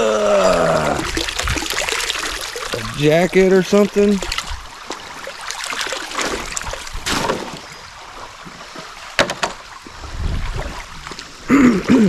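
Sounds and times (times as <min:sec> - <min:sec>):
legs wading through water: 0:00.4 - 0:11.6.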